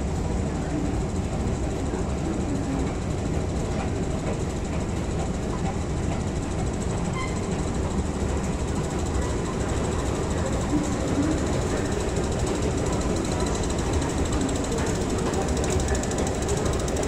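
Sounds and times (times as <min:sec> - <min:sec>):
echoing station ambience: 0:00.0 - 0:17.0.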